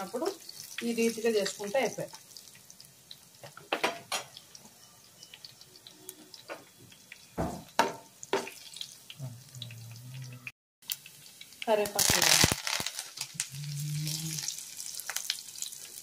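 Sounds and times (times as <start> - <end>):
faint sizzling oil: 0.0 - 16.0.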